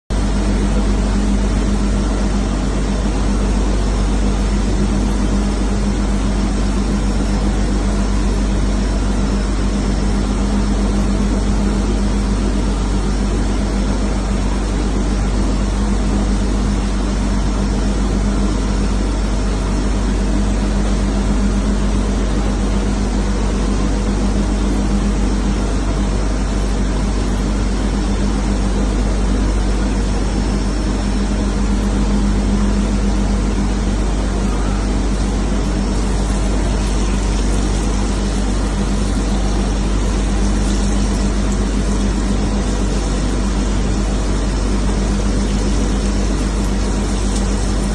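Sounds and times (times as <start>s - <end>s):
machine drone: 0.1s - 47.9s.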